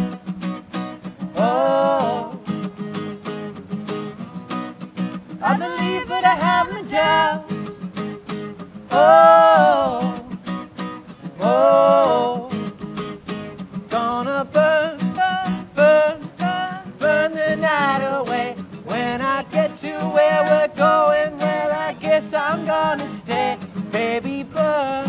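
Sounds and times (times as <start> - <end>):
acoustic guitars strummed: 0.0 - 25.0.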